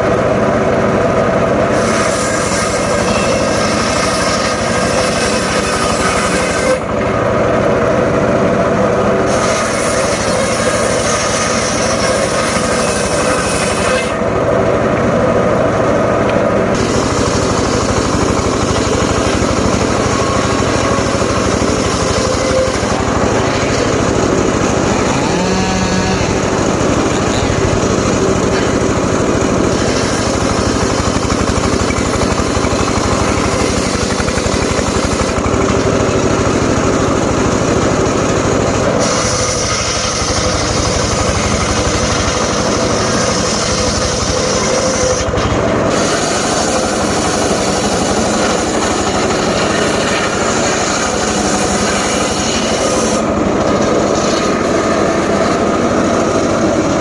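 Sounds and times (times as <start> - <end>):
circular saw running: 0.0 - 57.0.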